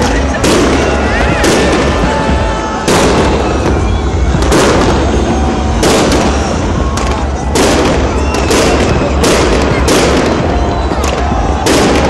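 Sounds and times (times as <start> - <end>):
distant fireworks bursts: 0.0 - 12.0
fireworks bangs with echoing rumble: 0.0 - 12.0.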